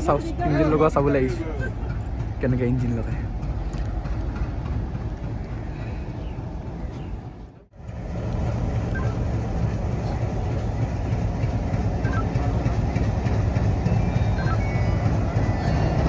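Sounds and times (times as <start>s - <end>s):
locomotive low rumble: 0.0s - 16.0s.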